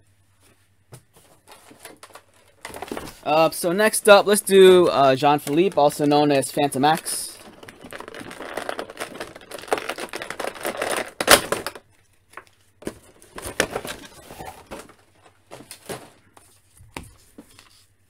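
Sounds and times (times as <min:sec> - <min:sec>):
rustles and clicks of handling: 0:00.3 - 0:18.0
plastic packaging crinkling: 0:01.4 - 0:16.4.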